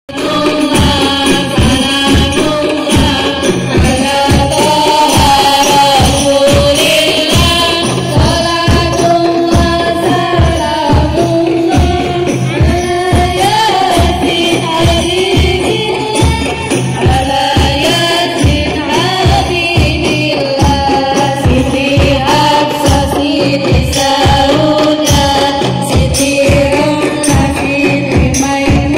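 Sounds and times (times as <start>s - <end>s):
devotional singing: 0.1s - 28.9s
hand-struck frame drums: 0.1s - 28.9s.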